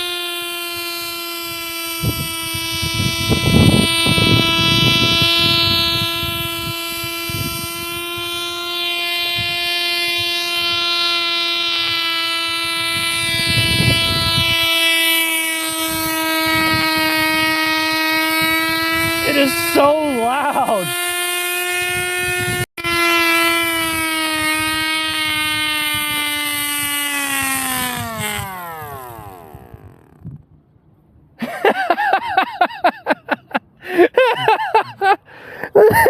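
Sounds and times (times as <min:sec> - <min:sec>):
model engine high-pitched buzz: 0:00.0 - 0:30.8, 0:31.4 - 0:36.0.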